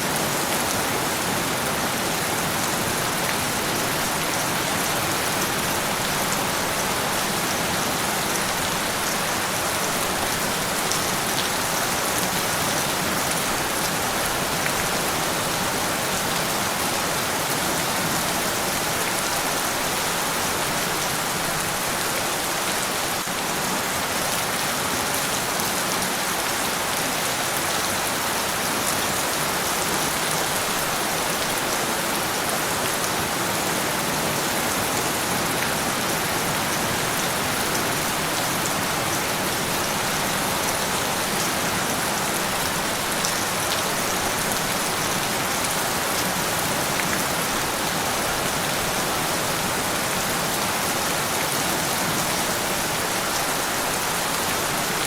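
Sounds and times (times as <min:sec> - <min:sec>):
rain falling on a surface: 0:00.0 - 0:55.0.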